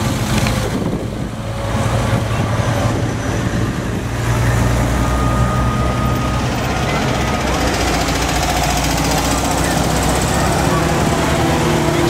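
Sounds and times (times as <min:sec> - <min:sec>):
old car engines rumbling: 0:00.0 - 0:12.0.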